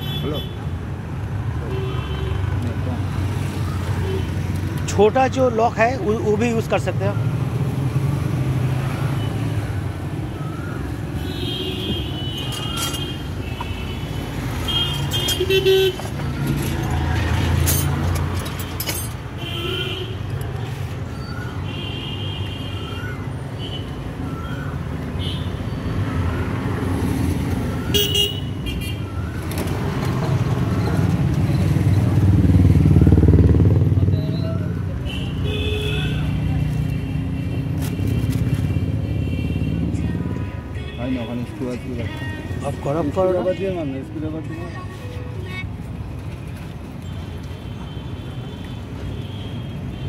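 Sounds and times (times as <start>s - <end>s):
traffic rumble: 0.0s - 50.0s.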